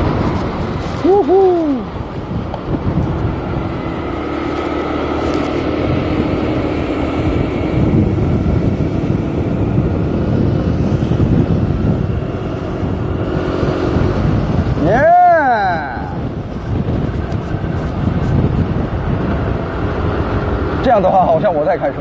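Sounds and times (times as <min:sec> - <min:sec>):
scooter engine humming: 0:00.0 - 0:22.0
wind buffeting microphone: 0:00.0 - 0:22.0.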